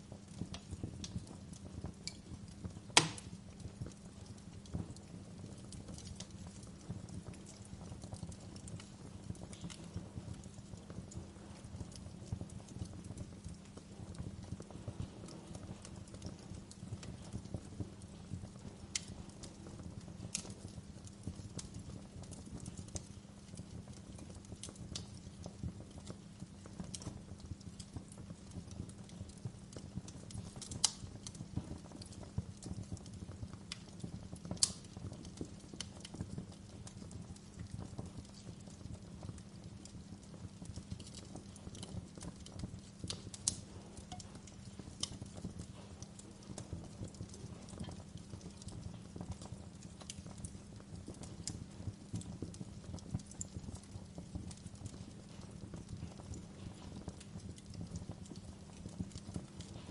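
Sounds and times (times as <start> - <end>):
fire crackling: 0.0 - 59.9
low fire rumble: 0.0 - 59.9
sharp fire pops: 0.3 - 39.5, 40.2 - 59.9.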